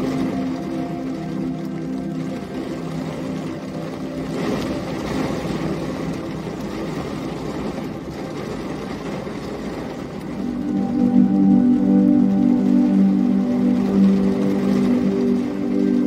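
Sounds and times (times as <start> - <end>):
low rumble: 0.0 - 16.0
rushing rain: 0.0 - 16.0
soft music pad: 0.0 - 16.0.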